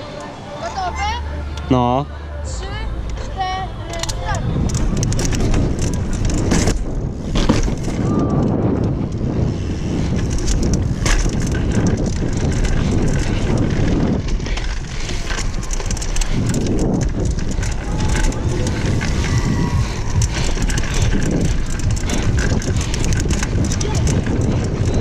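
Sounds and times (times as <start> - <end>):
wind buffeting microphone: 3.3 - 25.0
bike rattling over bumps: 3.8 - 25.0
tyres on dirt: 3.9 - 25.0.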